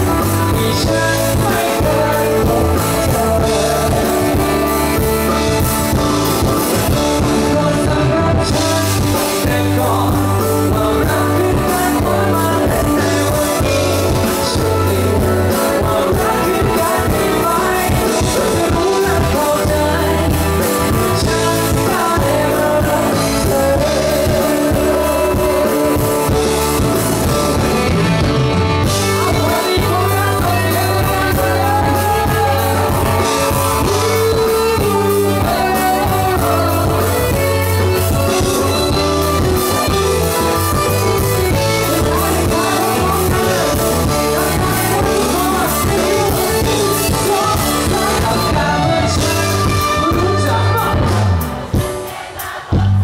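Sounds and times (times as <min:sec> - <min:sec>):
live band music with singer: 0:00.0 - 0:53.0.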